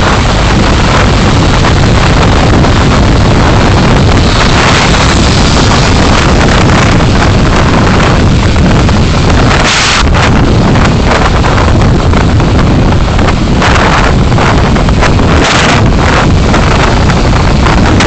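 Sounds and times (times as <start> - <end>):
road and wind rumble: 0.0 - 18.0.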